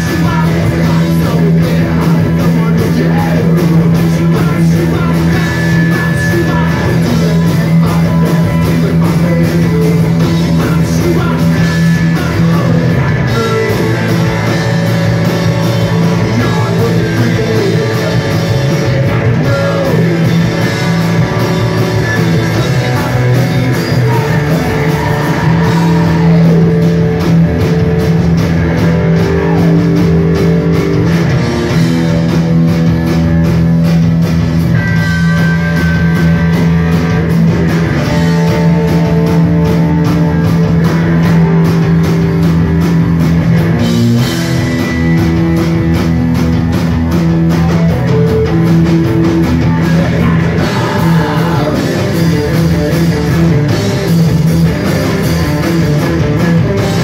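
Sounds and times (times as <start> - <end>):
drums: 0.0 - 57.0
electric guitars: 0.0 - 57.0.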